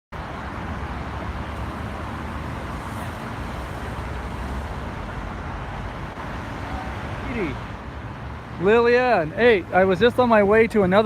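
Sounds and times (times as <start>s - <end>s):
freeway traffic rumble and hiss: 0.1s - 11.0s.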